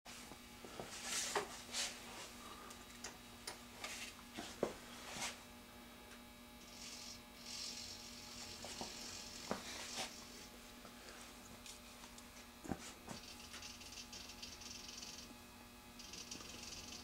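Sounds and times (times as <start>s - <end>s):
mains hum: 0.1s - 17.0s
soft high mechanical whir: 0.2s - 17.0s.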